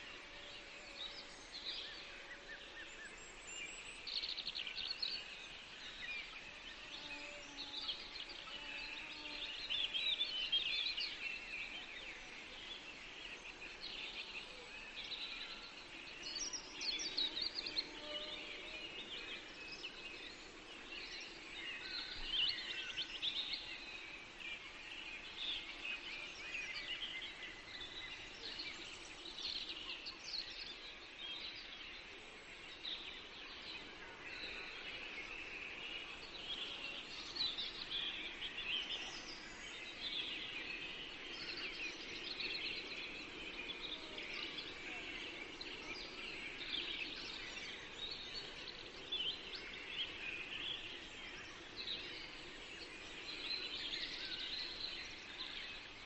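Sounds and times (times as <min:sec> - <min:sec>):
chorus of birds chirping: 0:00.0 - 0:56.0.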